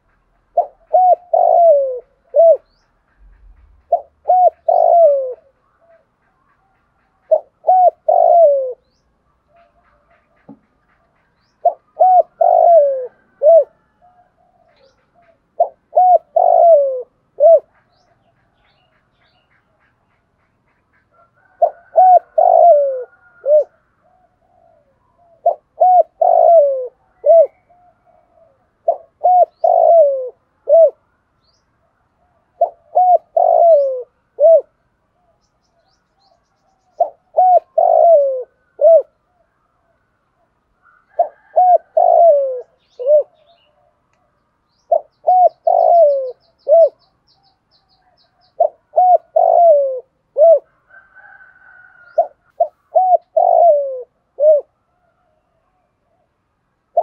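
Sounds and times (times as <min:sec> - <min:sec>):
dove cooing: 0:00.0 - 0:20.1, 0:20.7 - 0:31.1, 0:32.1 - 0:57.0.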